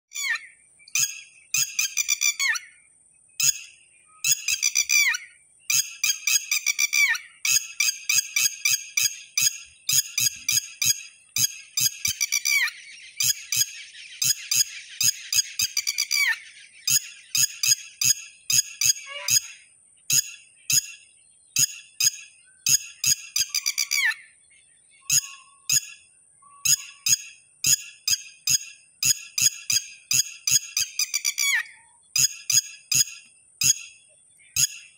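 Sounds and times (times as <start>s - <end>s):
lapwing calling shrill notes: 0.1s - 2.8s, 3.4s - 21.0s, 21.6s - 24.3s, 25.0s - 34.0s.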